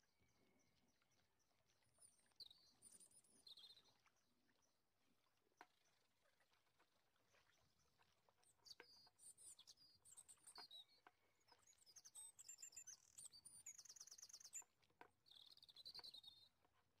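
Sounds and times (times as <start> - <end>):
faint songbird singing: 0.0 - 4.9, 7.3 - 16.7.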